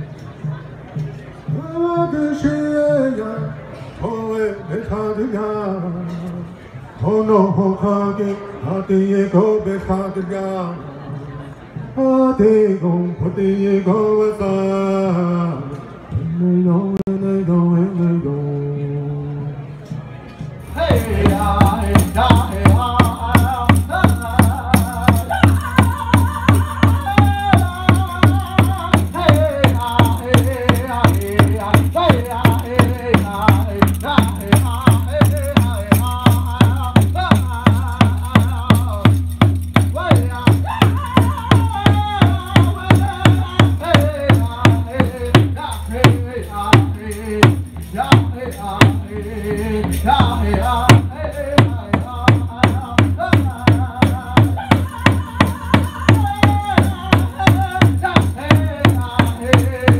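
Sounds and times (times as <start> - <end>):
man singing into a microphone: 1.5 - 11.1, 11.9 - 19.6, 20.7 - 59.9.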